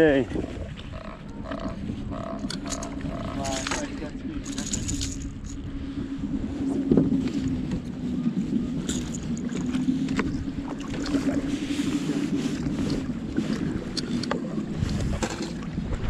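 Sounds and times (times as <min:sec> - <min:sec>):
boat motor humming: 0:00.0 - 0:16.0
wind rumbling on microphone: 0:00.0 - 0:16.0.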